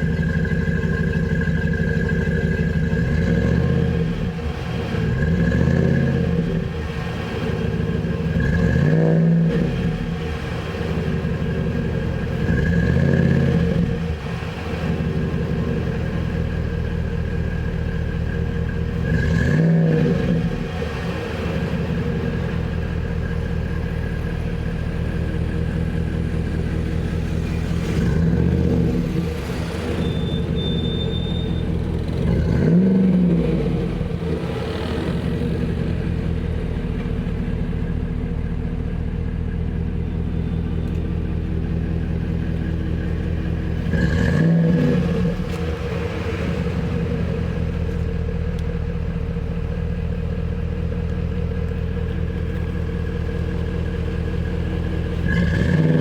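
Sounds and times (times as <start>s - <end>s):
engine revving: 0.0s - 16.7s, 17.6s - 39.1s, 40.1s - 49.3s, 51.7s - 56.0s
engine idling: 0.0s - 56.0s.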